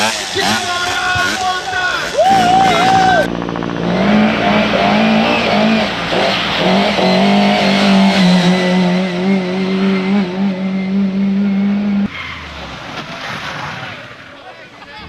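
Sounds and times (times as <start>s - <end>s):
car engine accelerating hard: 0.0s - 14.3s.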